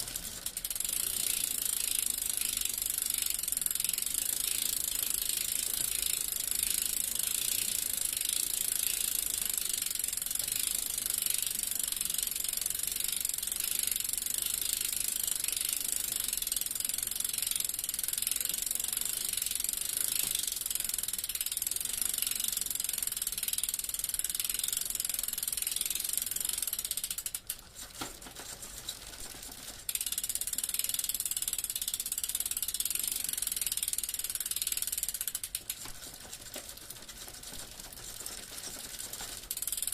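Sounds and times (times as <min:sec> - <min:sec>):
bicycle freewheel clicking: 0:00.0 - 0:39.9.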